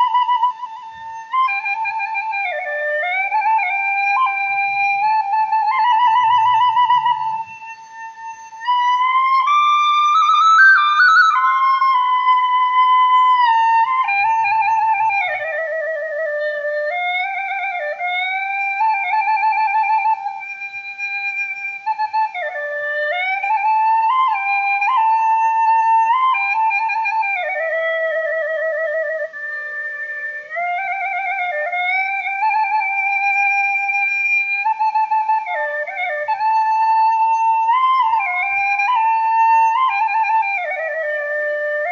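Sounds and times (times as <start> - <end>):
solo flute playing slow melody: 0.0 - 41.9.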